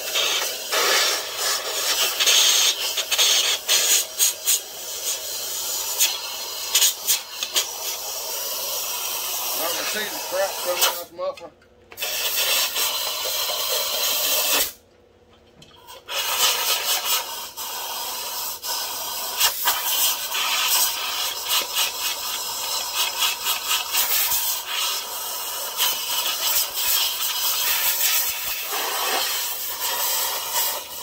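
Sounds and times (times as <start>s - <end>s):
compressed air hissing from nozzle: 0.0s - 11.1s, 12.0s - 14.8s, 15.8s - 31.0s.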